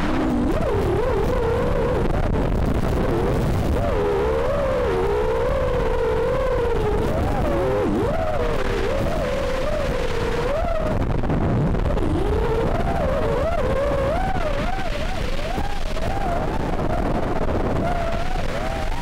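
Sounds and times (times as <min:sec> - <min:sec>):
wind and prop wash rumble: 0:00.0 - 0:19.0.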